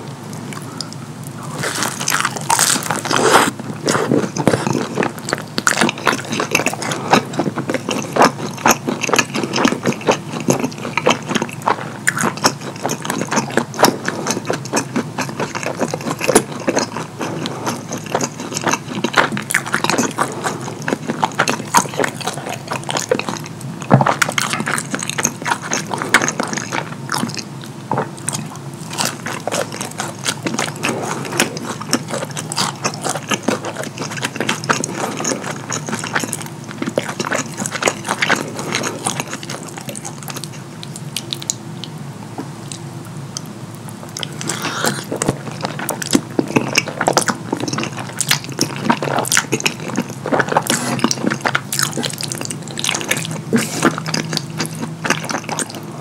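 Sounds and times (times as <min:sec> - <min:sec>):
wet chewing and lip smacking: 0:00.4 - 0:42.0, 0:42.6 - 0:55.9.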